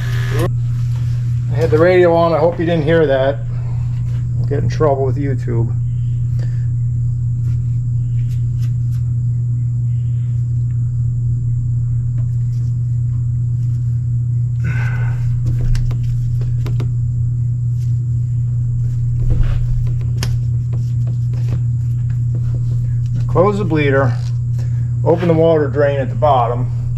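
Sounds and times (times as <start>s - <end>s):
electric fuel pump humming: 0.0s - 26.9s.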